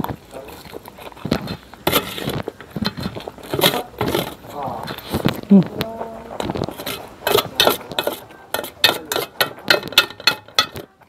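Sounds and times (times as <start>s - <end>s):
noodles being slurped: 0.0s - 9.4s.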